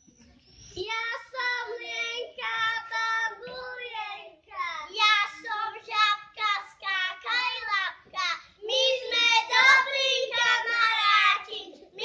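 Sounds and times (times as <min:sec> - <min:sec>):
young children singing: 0:00.7 - 0:12.0.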